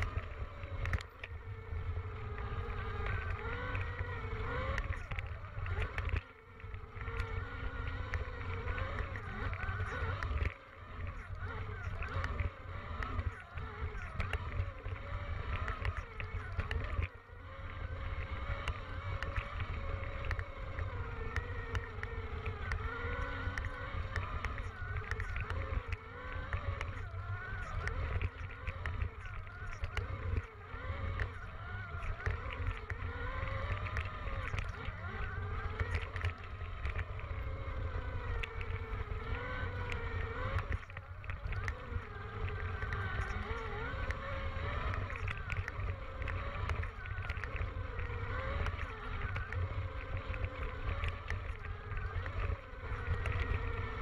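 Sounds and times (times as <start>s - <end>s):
electric motor and chain whine: 0.0s - 54.0s
wind rumble on microphone: 0.0s - 54.0s.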